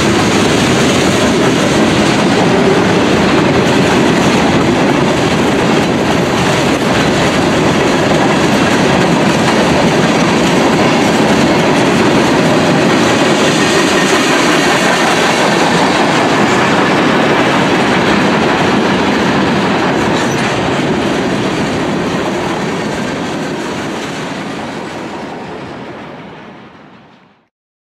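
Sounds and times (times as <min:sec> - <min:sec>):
freight train wheels rumbling: 0:00.0 - 0:27.5.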